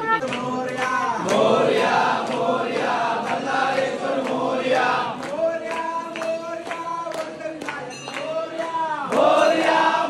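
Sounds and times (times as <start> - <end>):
sharp rhythmic beats: 0.0 - 10.0
crowd singing in unison: 0.2 - 10.0.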